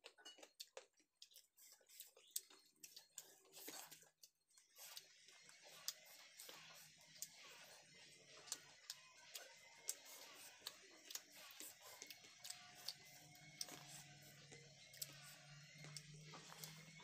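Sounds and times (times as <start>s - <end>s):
wet chewing clicks and lip smacks: 0.0s - 7.6s, 8.4s - 17.0s.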